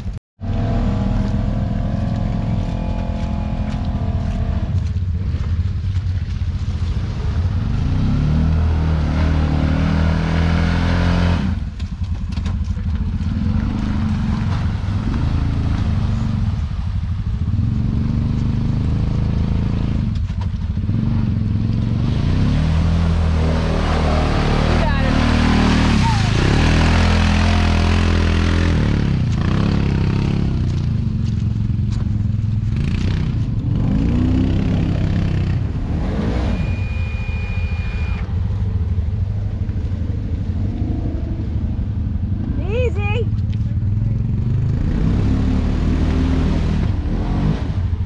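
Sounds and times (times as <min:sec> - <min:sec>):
utv engine revving uphill: 0:00.4 - 0:05.5, 0:06.7 - 0:48.0.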